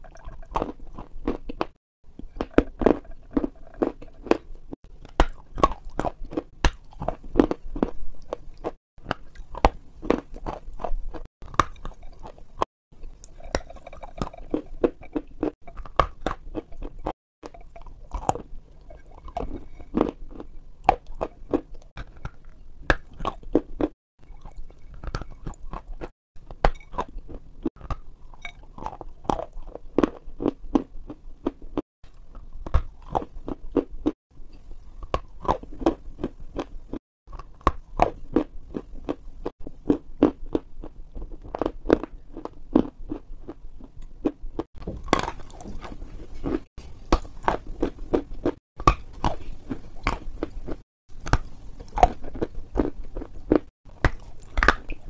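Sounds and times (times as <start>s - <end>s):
crunching and chewing: 0.1s - 55.0s.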